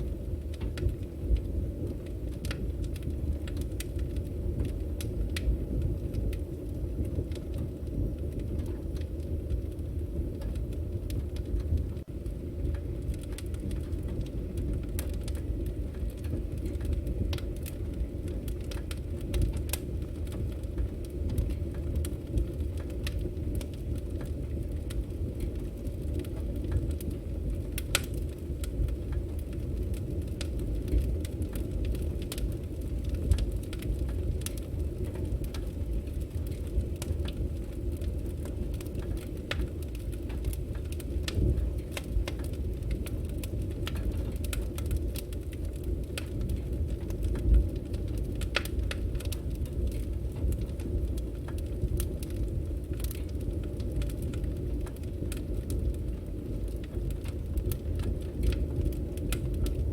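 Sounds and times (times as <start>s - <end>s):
firewood burning and crackling: 0.0s - 59.9s.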